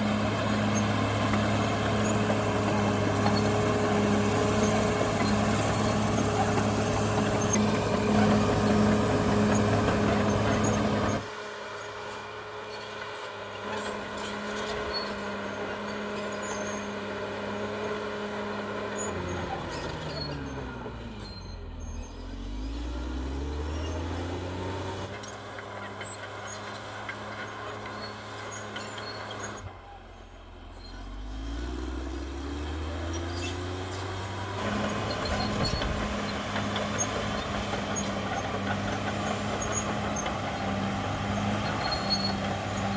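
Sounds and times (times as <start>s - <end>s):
bulldozer diesel engine running: 0.0s - 42.9s.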